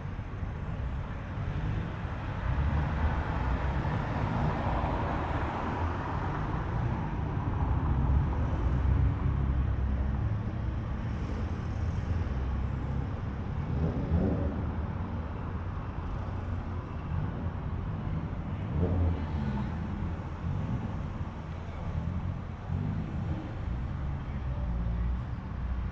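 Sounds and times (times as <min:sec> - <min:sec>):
car engines rumbling: 0:00.0 - 0:25.9.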